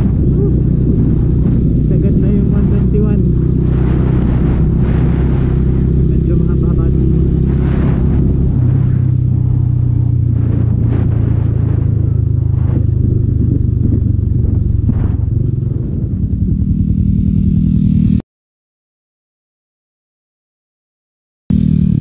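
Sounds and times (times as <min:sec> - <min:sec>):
rush of wind noise: 0:00.0 - 0:18.1
motorcycle engine running: 0:00.0 - 0:18.2, 0:21.5 - 0:22.0.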